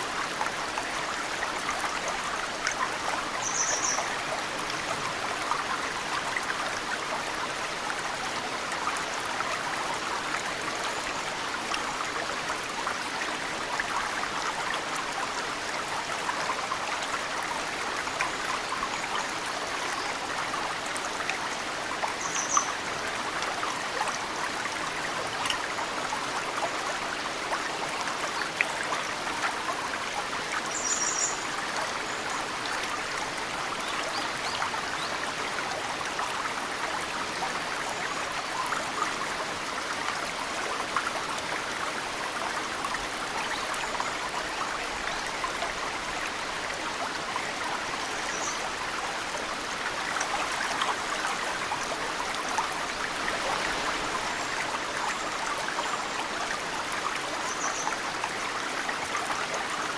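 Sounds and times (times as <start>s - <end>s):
mountain stream running: 0.0s - 59.9s.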